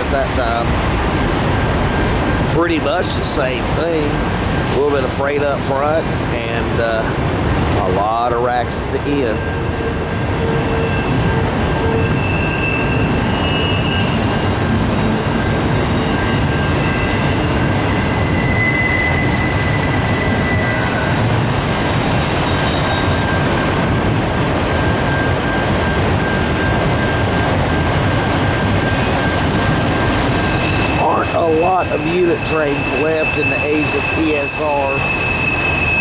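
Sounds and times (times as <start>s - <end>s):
freight train wheels rumbling: 0.0s - 36.0s
high wheel squeals: 0.0s - 36.0s.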